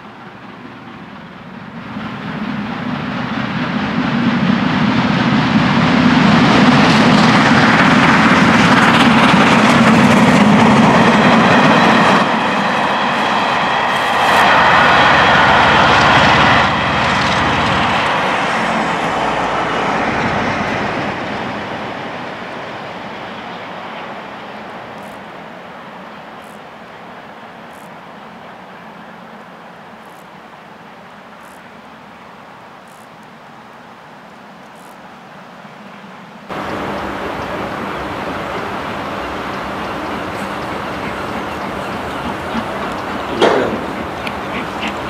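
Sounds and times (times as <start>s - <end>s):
steady high whine: 0.0s - 33.2s, 35.7s - 45.0s
passenger train passing: 0.0s - 45.0s.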